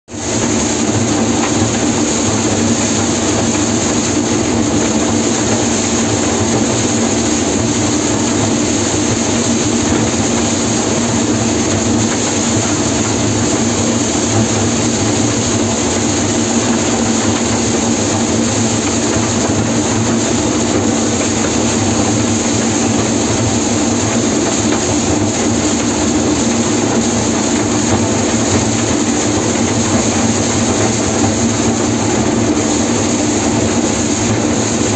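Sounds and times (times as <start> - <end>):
combine harvester machinery drone: 0.1 - 34.9.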